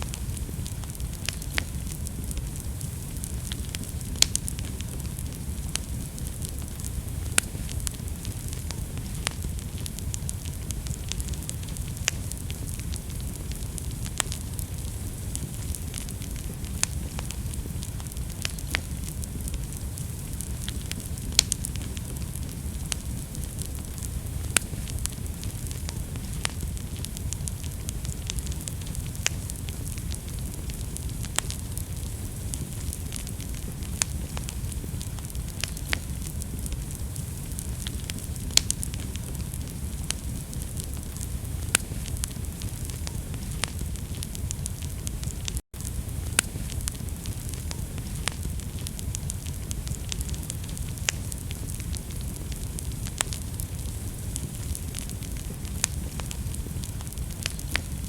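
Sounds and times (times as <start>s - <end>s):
fire pops and crackles: 0.0s - 58.0s
wood fire burning: 0.0s - 58.0s.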